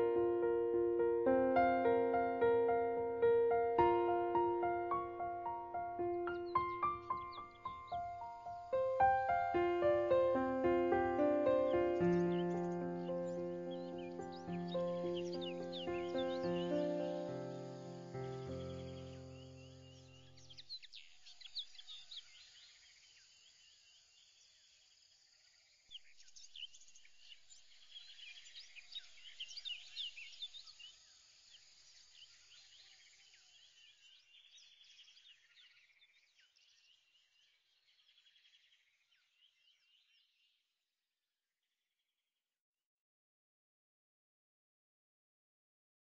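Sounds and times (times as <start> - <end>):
faint birdsong: 0.0 - 40.7.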